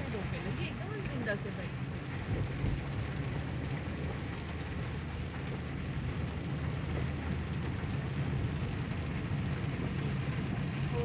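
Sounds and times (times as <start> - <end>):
heavy rain on wet road: 0.0 - 11.0
low rumble of traffic: 0.0 - 11.0.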